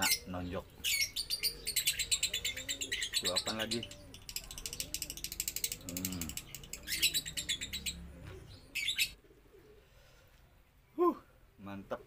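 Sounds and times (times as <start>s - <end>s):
dove cooing: 0.0s - 10.3s
small birds chirping: 0.0s - 12.0s.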